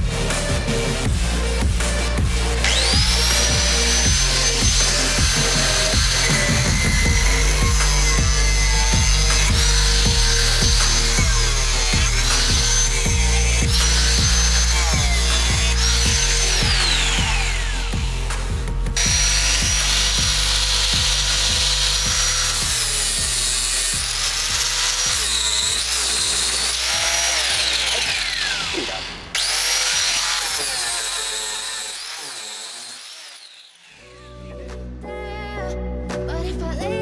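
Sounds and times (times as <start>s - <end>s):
background music: 0.0s - 32.1s, 34.0s - 37.0s
electric power tool cutting wood: 0.0s - 34.2s.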